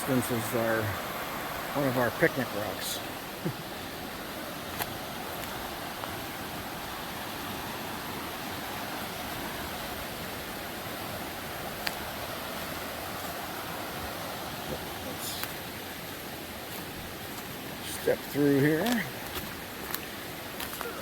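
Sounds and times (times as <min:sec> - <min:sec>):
river rushing over boulders: 0:00.0 - 0:21.0.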